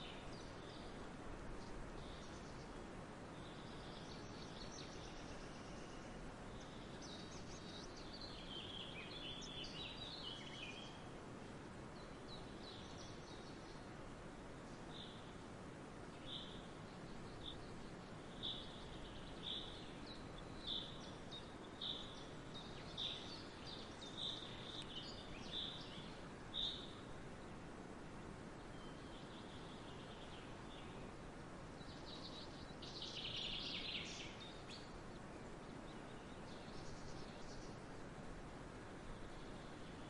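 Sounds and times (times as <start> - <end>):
outdoor ambience hiss: 0.0 - 40.0.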